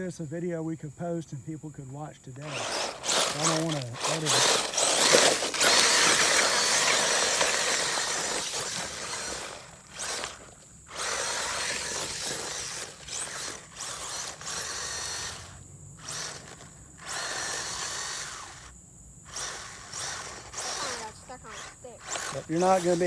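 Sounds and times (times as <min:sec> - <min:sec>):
electric motor whining: 0:02.4 - 0:23.0.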